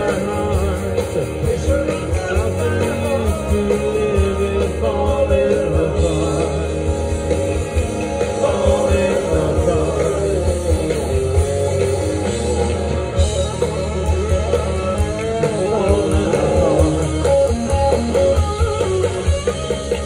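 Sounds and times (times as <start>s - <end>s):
bass guitar: 0.0s - 20.0s
drum kit: 0.0s - 20.0s
electric guitars: 0.0s - 20.0s.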